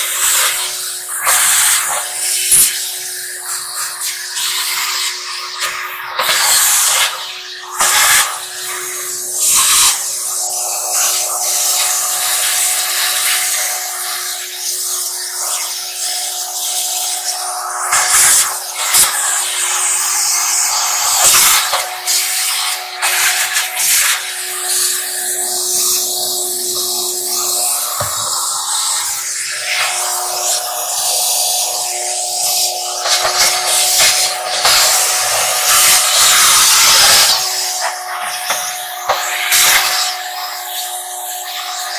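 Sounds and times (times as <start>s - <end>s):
shop vacuum running: 0.0s - 41.9s.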